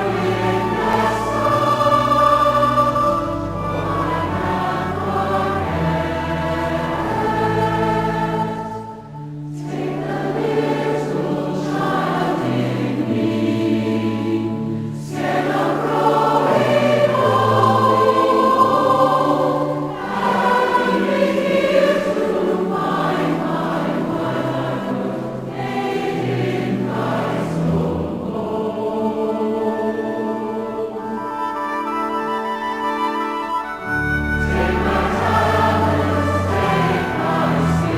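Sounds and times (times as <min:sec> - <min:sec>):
choir singing a hymn: 0:00.0 - 0:37.9.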